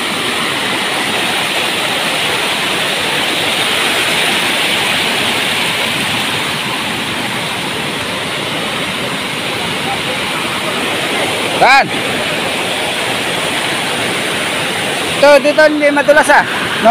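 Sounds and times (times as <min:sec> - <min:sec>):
waterfall rushing and splashing: 0:00.0 - 0:16.9.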